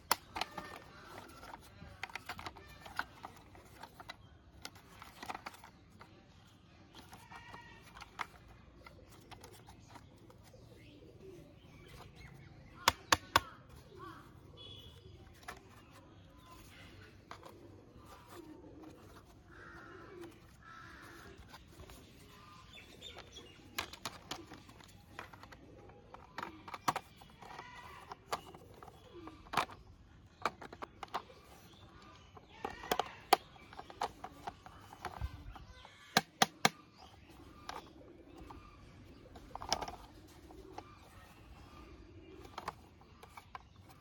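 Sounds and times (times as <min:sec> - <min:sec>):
plastic toy parts clicking: 0:00.0 - 0:10.5, 0:11.9 - 0:13.8, 0:16.6 - 0:38.6, 0:39.3 - 0:41.8, 0:42.4 - 0:44.0
faint birds calling: 0:00.0 - 0:44.0.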